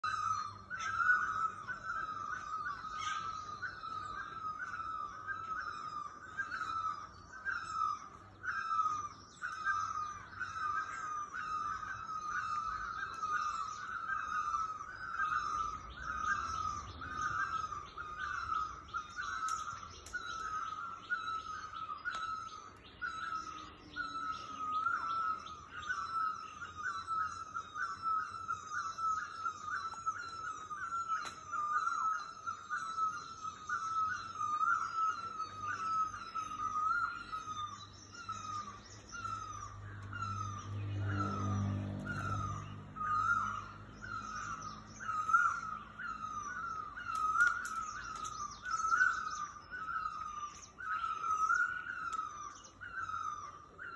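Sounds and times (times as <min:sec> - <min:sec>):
bird repeating a call: 0:00.0 - 0:53.9
faint high bird chirps: 0:00.0 - 0:53.9.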